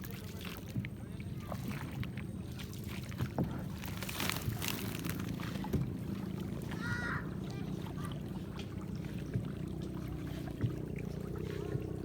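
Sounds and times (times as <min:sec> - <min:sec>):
motorboat engine humming: 0:00.4 - 0:12.0.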